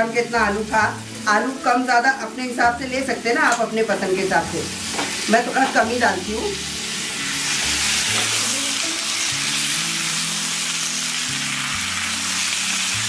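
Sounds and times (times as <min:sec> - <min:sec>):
soft background music: 0:00.0 - 0:13.0
vegetables sizzling in a pan: 0:00.0 - 0:13.0.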